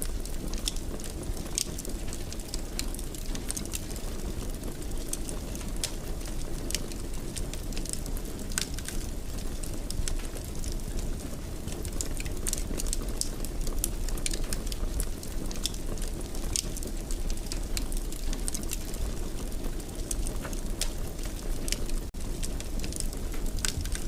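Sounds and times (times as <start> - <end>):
fire crackling and popping: 0.0 - 24.0
low rumble of burning: 0.0 - 24.0.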